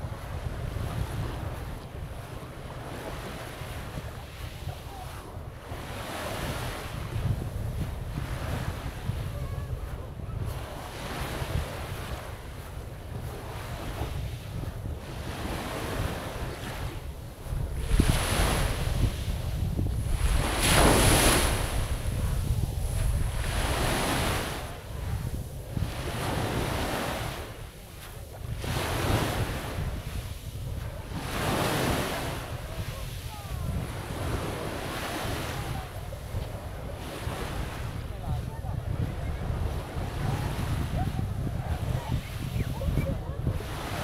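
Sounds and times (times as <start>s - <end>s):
small waves washing ashore: 0.0s - 44.0s
wind buffeting microphone: 0.0s - 44.0s.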